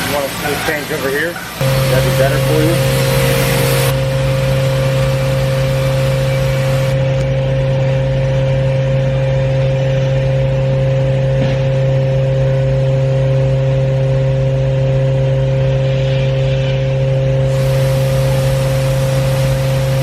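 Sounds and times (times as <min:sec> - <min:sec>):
machine steady mechanical hum: 0:00.0 - 0:20.0.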